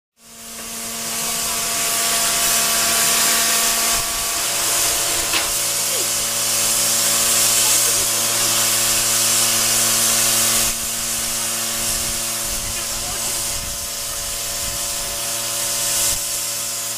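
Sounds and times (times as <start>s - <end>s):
steam hissing: 0.2s - 16.9s.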